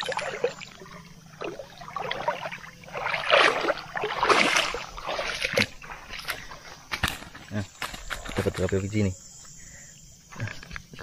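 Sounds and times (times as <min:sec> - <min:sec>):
water splashing and sloshing: 0:00.0 - 0:09.0.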